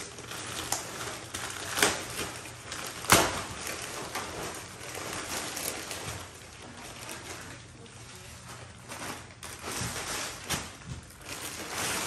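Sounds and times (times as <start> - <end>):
plastic wrapping rustling: 0.0 - 12.0
sharp plastic crackles: 0.0 - 12.0.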